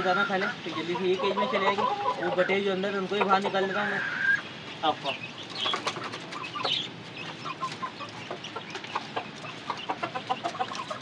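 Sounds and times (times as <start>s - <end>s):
chickens clucking: 0.0s - 11.0s
chicks cheeping: 0.0s - 11.0s.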